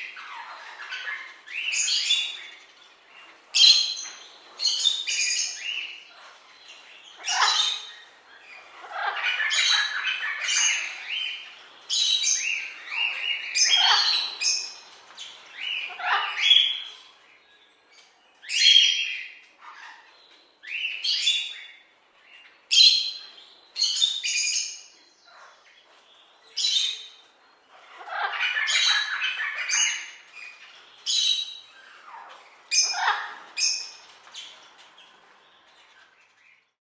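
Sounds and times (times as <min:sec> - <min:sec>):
parrots squawking: 0:00.0 - 0:17.2, 0:18.5 - 0:26.0, 0:26.6 - 0:36.4.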